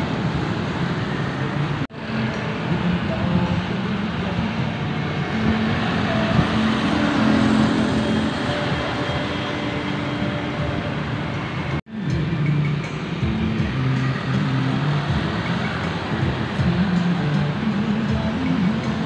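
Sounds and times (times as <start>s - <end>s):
light truck passing: 0.0s - 19.0s
motorbike engines passing: 0.0s - 19.0s.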